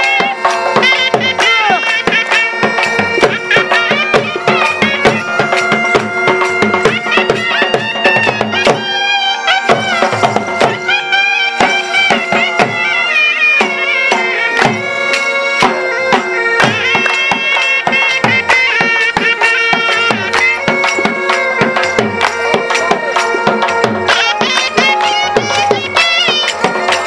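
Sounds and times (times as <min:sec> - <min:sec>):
dhol drum beating: 0:00.0 - 0:27.0
reed pipe melody over drone: 0:00.0 - 0:27.0.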